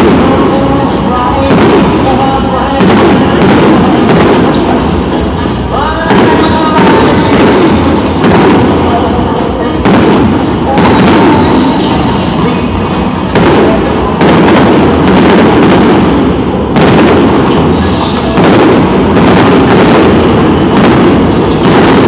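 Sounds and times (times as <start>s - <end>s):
fireworks bursting: 0.0s - 22.0s
fireworks heavy booms: 0.0s - 22.0s.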